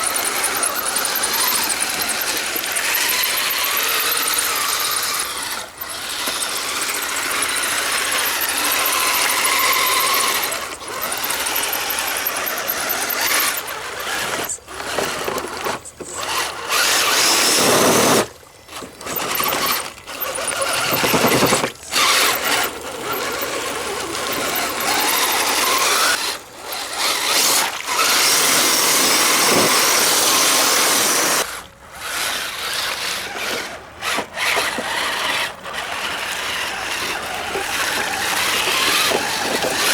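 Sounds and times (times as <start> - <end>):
toy truck electric motor whining: 0.0 - 39.9.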